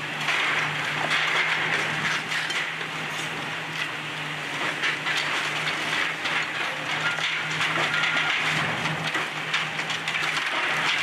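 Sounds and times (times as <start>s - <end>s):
bricks and timber crunching: 0.2s - 3.4s, 4.5s - 11.0s.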